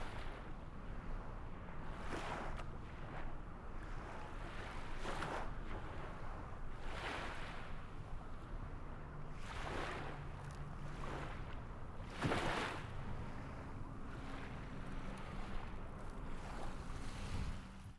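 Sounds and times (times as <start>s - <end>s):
waves washing in: 0.0s - 17.9s.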